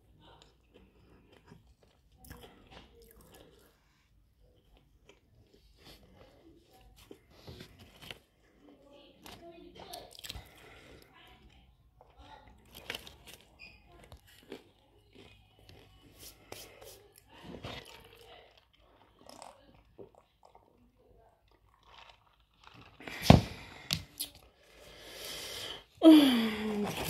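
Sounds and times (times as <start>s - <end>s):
chewing crunchy chips: 0.0s - 24.9s.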